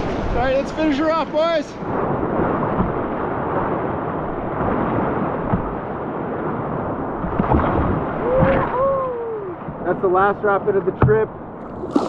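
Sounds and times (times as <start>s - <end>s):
rushing whitewater: 0.0s - 12.0s
waves splashing against canoe: 0.0s - 12.0s.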